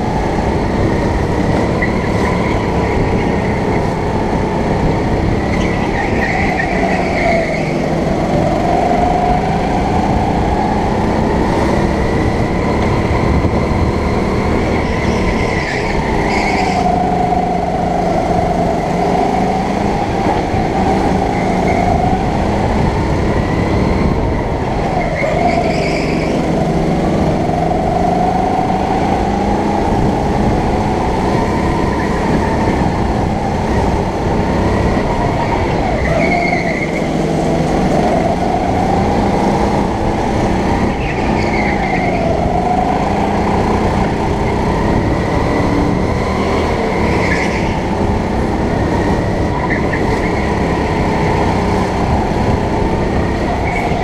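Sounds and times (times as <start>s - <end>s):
go-kart engine at full throttle: 0.0s - 54.0s.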